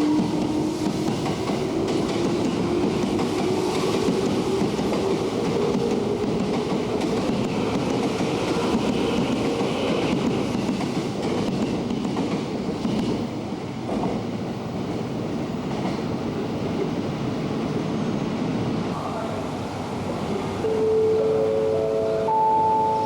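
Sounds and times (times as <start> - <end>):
train wheels rumbling on rails: 0.0 - 20.7.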